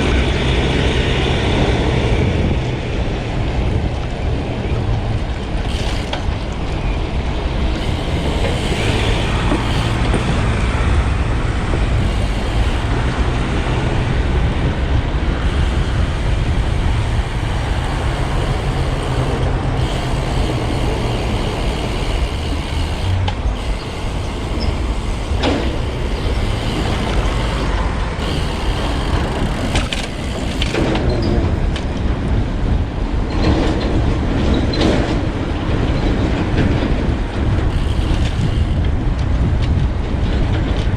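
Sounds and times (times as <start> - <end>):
road traffic noise: 0.0 - 40.9
wind rushing over microphone: 0.0 - 40.9.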